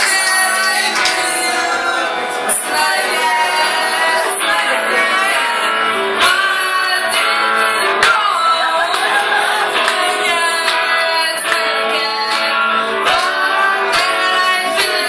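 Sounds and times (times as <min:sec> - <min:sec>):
acoustic guitar strumming: 0:00.0 - 0:15.0
electric guitar: 0:00.0 - 0:15.0
woman singing: 0:00.0 - 0:15.0.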